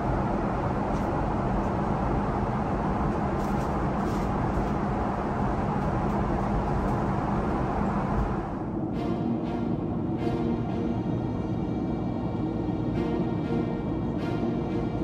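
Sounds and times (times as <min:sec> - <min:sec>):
airflow and jet engine roar: 0:00.0 - 0:15.0.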